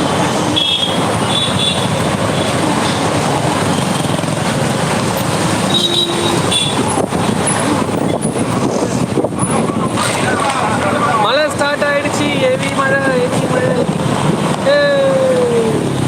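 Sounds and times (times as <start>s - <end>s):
heavy wind rushing: 0.0s - 16.0s.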